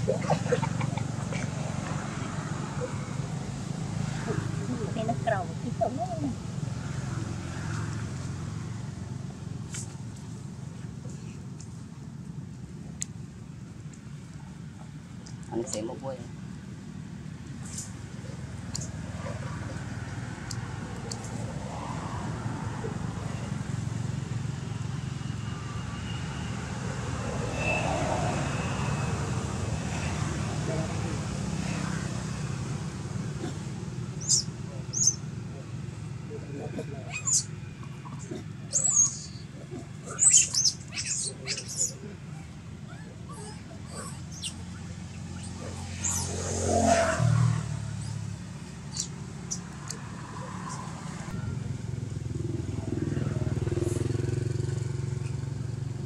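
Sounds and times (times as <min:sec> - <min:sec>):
motor vehicle passing by: 0:00.0 - 0:10.0, 0:17.4 - 0:56.0
distant traffic rumble: 0:00.0 - 0:56.0.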